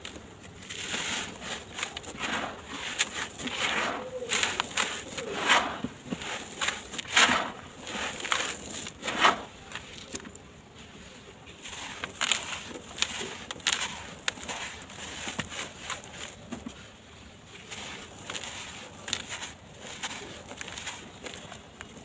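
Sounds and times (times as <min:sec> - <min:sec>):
blocks crumbling and crunching: 0:00.0 - 0:10.5, 0:11.6 - 0:16.9, 0:17.5 - 0:22.0.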